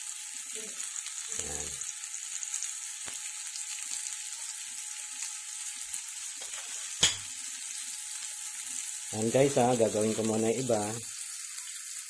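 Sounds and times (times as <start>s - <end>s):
burger patty sizzling: 0.0s - 12.0s.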